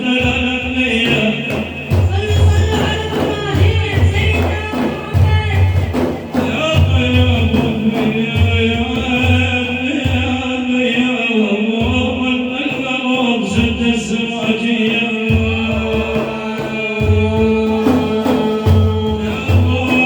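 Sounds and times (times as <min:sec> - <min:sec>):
low drum beating: 0:00.0 - 0:20.0
man singing praise song: 0:00.0 - 0:20.0.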